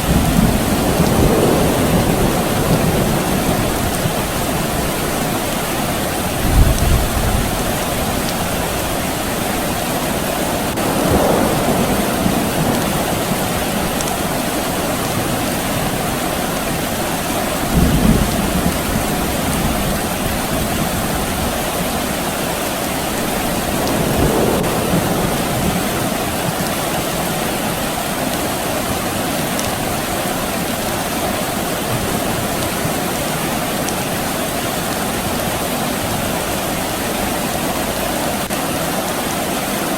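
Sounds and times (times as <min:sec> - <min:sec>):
distant thunder rumbling: 0:00.0 - 0:34.3
rain falling: 0:00.0 - 0:39.9.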